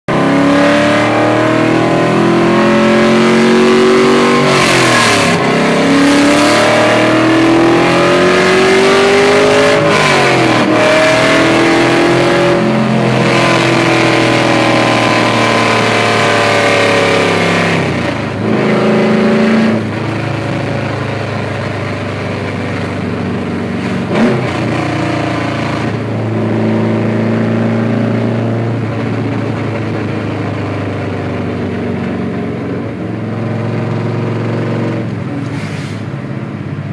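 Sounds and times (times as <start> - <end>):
loud car engine revving: 0.1 - 36.0.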